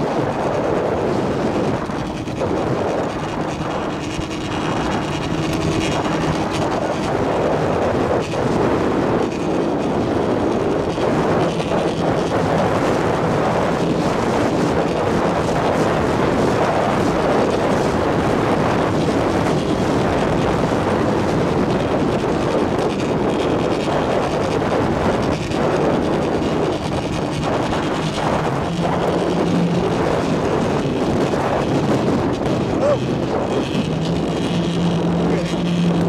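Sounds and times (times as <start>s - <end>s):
boat engine droning: 0.0s - 36.0s
water against boat hull: 0.0s - 36.0s
wind: 0.0s - 36.0s.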